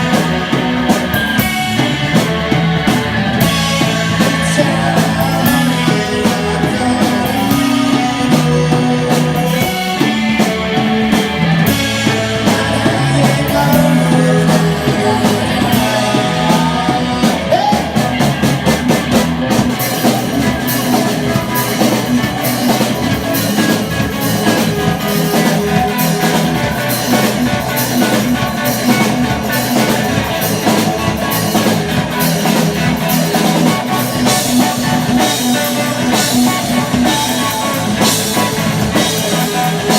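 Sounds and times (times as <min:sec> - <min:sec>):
bass guitar: 0:00.0 - 0:39.9
drums and cymbals: 0:00.0 - 0:39.9
guitars: 0:00.0 - 0:39.9.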